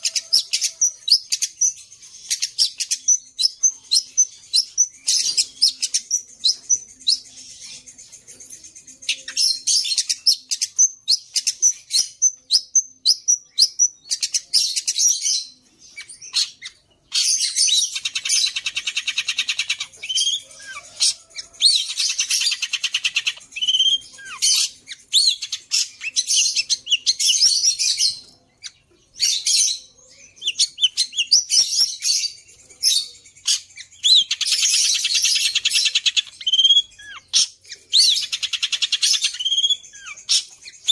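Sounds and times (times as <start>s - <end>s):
bird singing chattering song: 0.0s - 40.9s.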